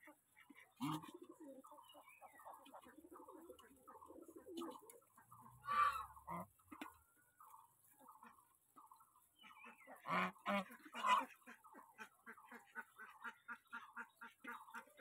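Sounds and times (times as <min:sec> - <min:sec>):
geese honking: 0:00.0 - 0:15.0
short soft goose calls: 0:00.0 - 0:15.0.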